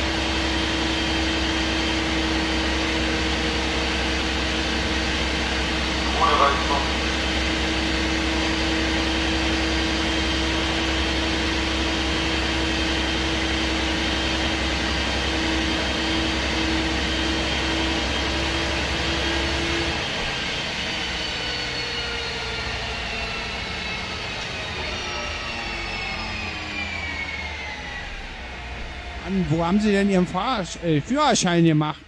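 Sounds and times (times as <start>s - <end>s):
bus diesel engine drone: 0.0s - 32.0s
engine whine: 0.0s - 32.0s.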